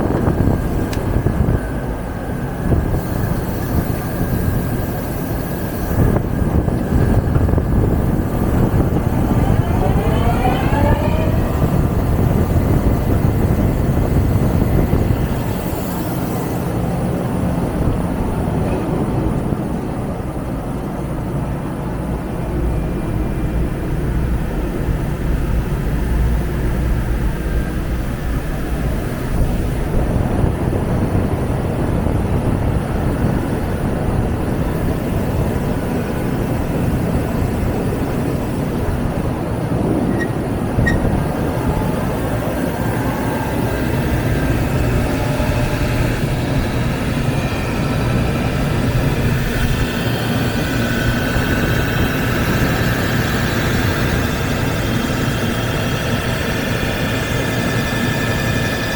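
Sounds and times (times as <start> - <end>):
lathe rumbling and humming: 0.0 - 58.9.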